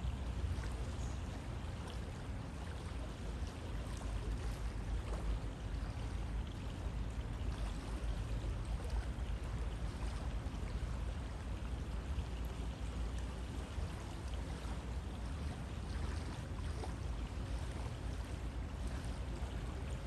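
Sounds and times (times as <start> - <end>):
river water rushing: 0.0 - 20.0
small water splashes: 0.0 - 20.0.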